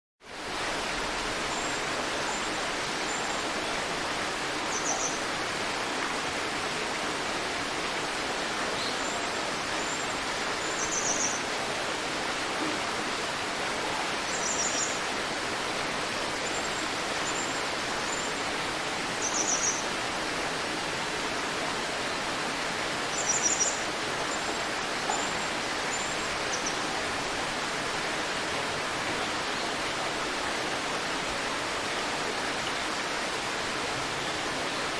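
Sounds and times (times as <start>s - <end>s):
river water flowing: 0.2s - 34.9s.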